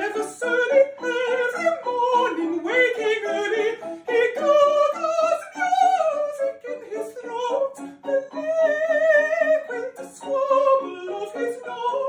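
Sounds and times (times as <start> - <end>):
piano chords: 0.0 - 12.0
woman singing with vibrato: 0.0 - 12.0.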